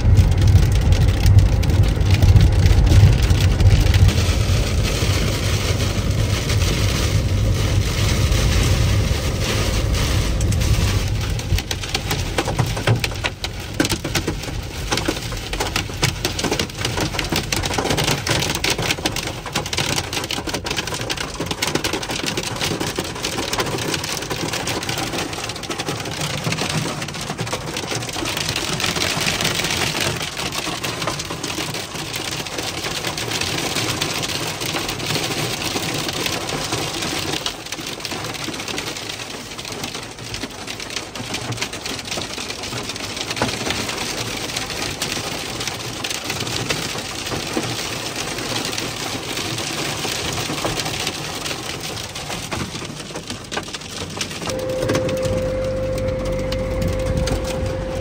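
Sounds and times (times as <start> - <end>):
heavy rain on a vehicle roof: 0.0 - 58.0.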